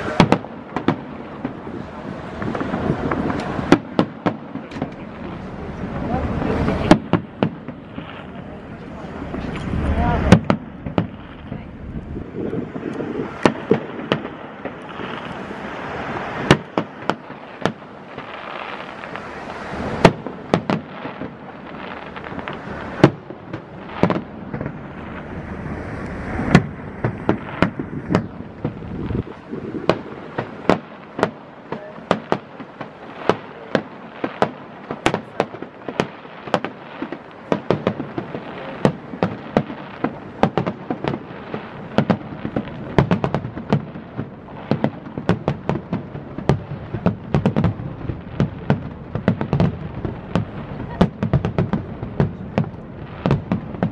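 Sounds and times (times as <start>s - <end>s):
firework shells bursting: 0.0s - 53.9s.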